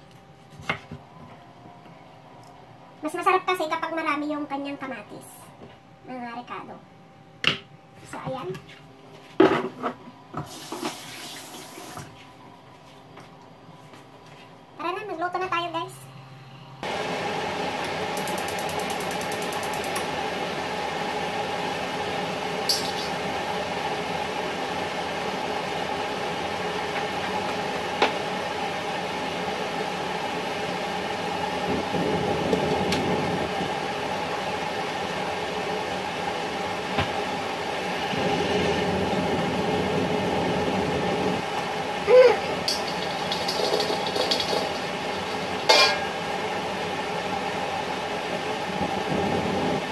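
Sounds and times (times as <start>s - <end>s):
range hood fan humming: 0.0s - 49.9s.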